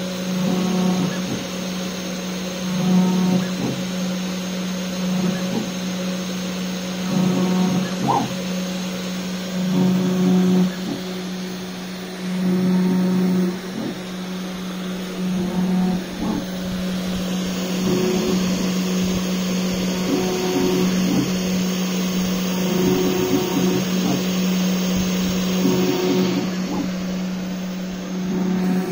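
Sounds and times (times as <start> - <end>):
router motor hum and whine: 0.0 - 28.9.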